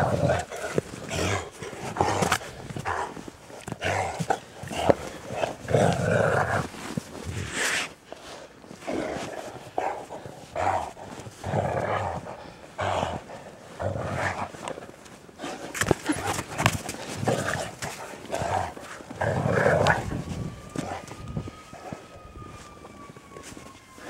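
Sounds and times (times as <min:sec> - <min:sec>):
dogs huffing and growling: 0:00.0 - 0:22.0.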